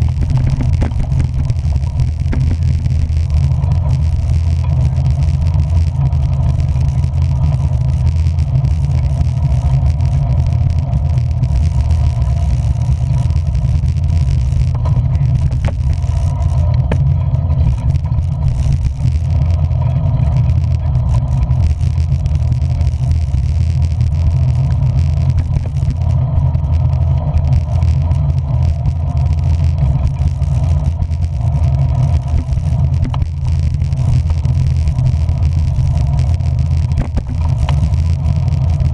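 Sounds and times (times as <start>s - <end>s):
vehicle engine and road drone: 0.0s - 38.9s.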